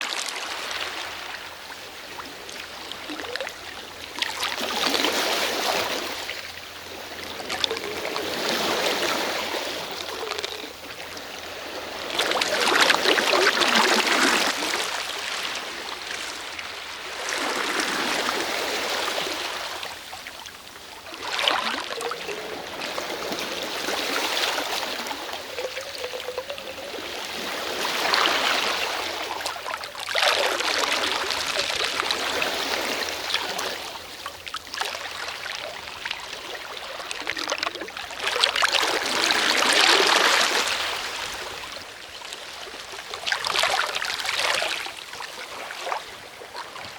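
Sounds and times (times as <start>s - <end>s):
sea waves washing onto shore: 0.0s - 46.9s.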